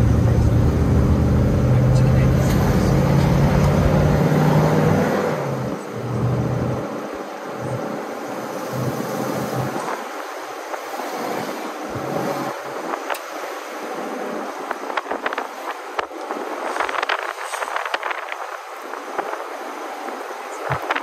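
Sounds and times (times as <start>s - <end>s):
car road and wind noise: 0.0s - 21.0s.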